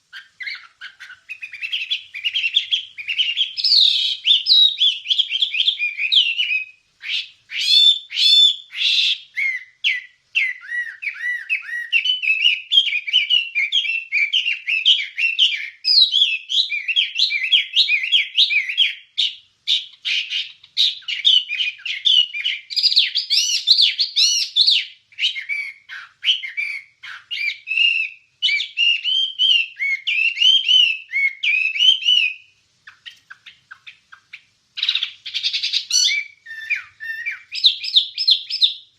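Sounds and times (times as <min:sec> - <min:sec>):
songbird chattering song: 0:00.0 - 0:38.9.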